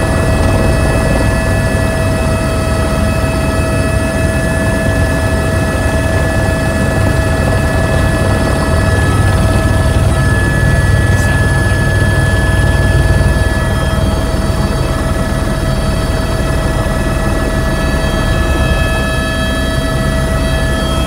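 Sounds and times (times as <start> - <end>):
helicopter engine and rotors droning: 0.0 - 21.0.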